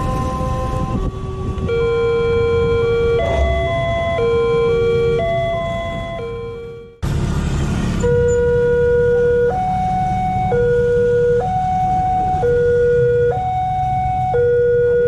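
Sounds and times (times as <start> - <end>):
level crossing two-tone alarm: 0.0 - 7.0, 8.0 - 15.0
motorcycle and traffic rumble: 0.0 - 15.0.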